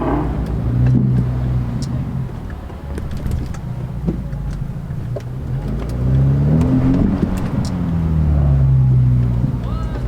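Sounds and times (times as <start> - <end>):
car engine accelerating: 0.0 - 10.0
low road rumble: 0.0 - 10.0.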